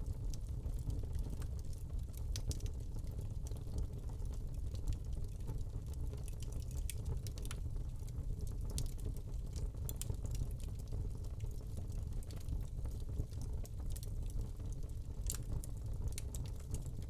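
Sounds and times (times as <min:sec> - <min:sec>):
log fire burning: 0:00.0 - 0:17.0.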